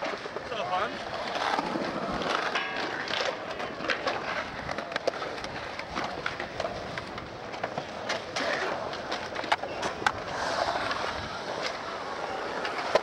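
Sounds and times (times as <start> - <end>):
skateboard clacks on concrete: 0.0 - 13.0
skateboard wheels rolling on concrete: 0.0 - 13.0.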